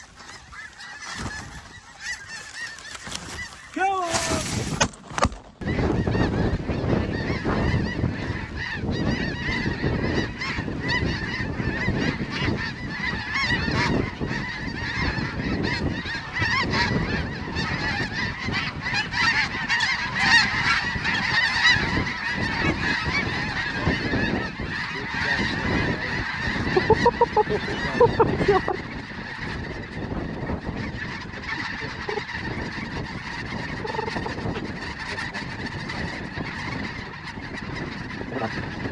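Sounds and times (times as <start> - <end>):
geese honking: 0.0 - 38.9.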